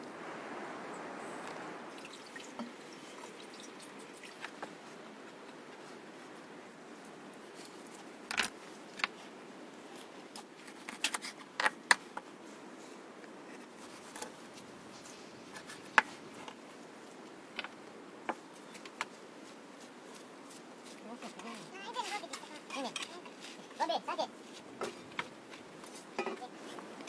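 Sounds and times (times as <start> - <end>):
low background hiss: 0.0 - 27.0.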